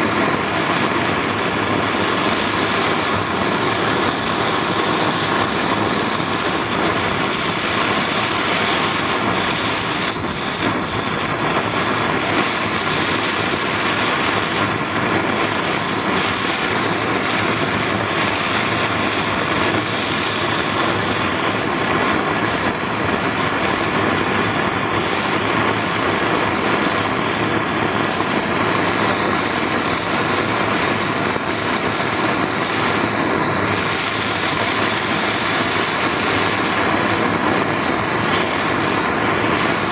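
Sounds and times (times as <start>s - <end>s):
torch flame rushing: 0.0s - 39.9s.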